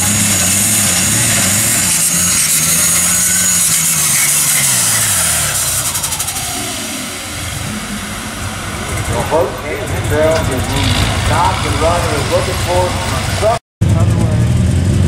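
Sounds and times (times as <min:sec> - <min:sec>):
high whine: 0:00.0 - 0:14.4
tractor engine under load: 0:00.0 - 0:15.0.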